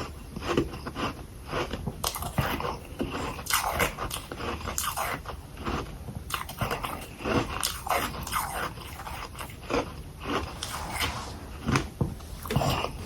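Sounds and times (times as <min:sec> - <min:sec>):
person crunching frost balls: 0:00.0 - 0:13.0.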